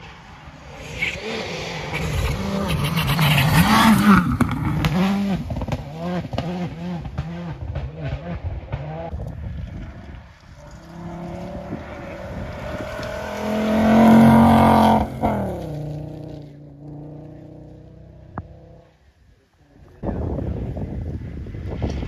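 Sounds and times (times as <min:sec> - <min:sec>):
rally car engine passing: 0:00.0 - 0:19.0.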